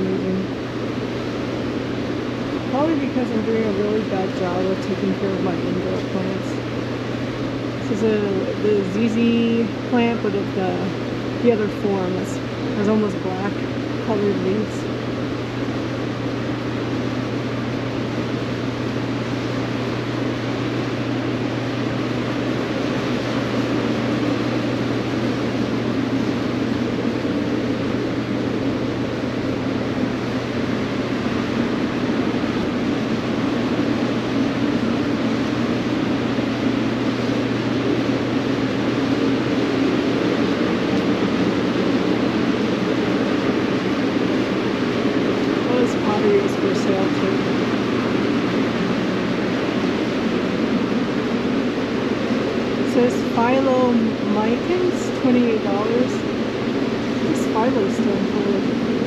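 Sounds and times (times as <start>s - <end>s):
constant low hum: 0.0s - 59.0s
ventilation fans whooshing: 0.0s - 59.0s.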